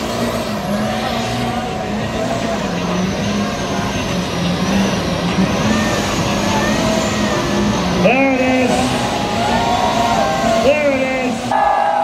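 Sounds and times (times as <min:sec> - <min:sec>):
car engine revving high: 0:00.0 - 0:12.0
spinning tyres rushing: 0:00.0 - 0:12.0.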